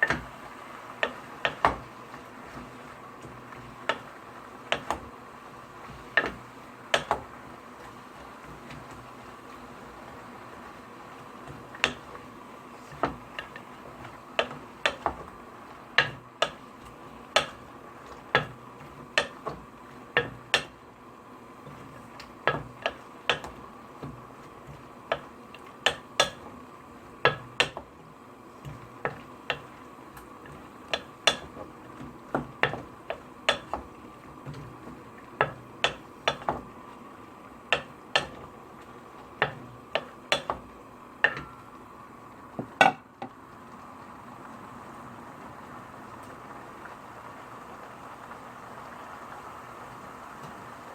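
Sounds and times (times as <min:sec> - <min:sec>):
steady background hum: 0:00.0 - 0:50.9.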